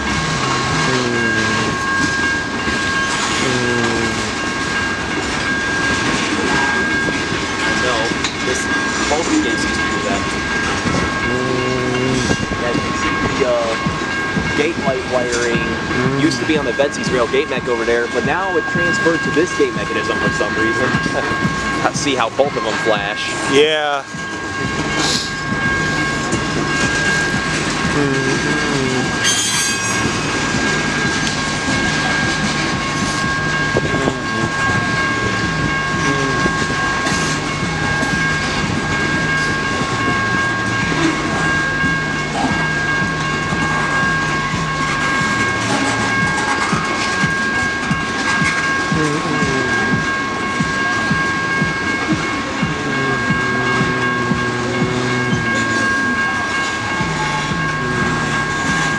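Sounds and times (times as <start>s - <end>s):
high-pitched crossing tones: 0.0s - 58.9s.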